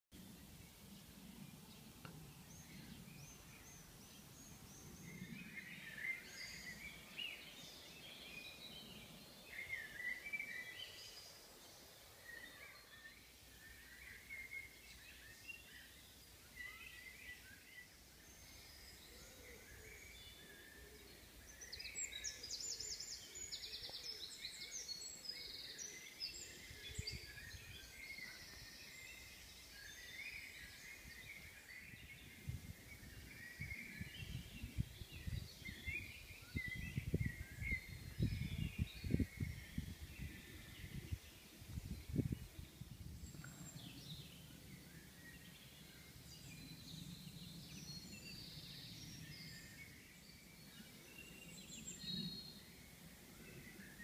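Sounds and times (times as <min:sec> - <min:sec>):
low outdoor hiss: 0:00.2 - 0:54.0
songbirds singing: 0:00.2 - 0:54.0.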